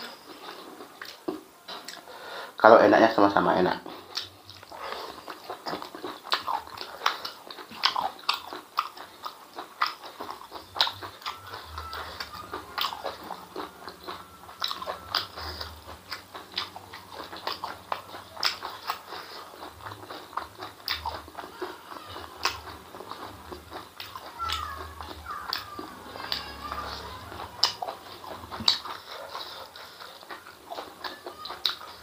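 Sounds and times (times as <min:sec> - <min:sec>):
person chewing with lip smacks: 0:03.8 - 0:32.0.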